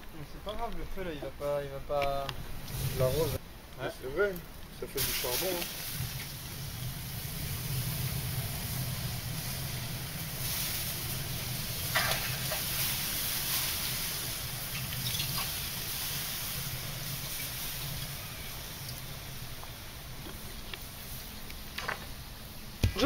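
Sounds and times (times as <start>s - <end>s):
fire crackles: 0.0s - 23.0s
water hissing in a hot pot: 2.5s - 3.4s, 4.8s - 22.8s.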